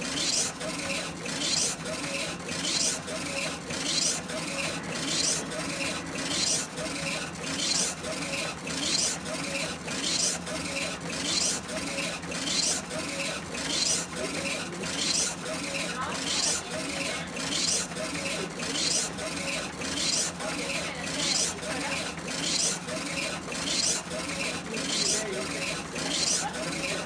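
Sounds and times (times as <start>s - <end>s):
printer carriage swishing whir: 0.0s - 27.0s.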